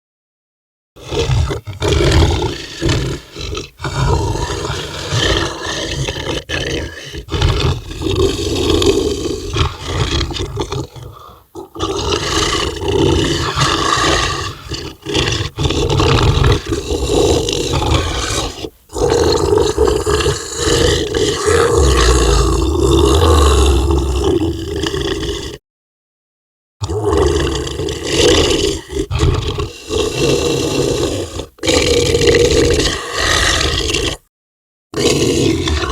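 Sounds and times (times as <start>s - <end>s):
dog snarling and growling: 1.0s - 25.6s, 26.8s - 34.2s, 34.9s - 35.9s.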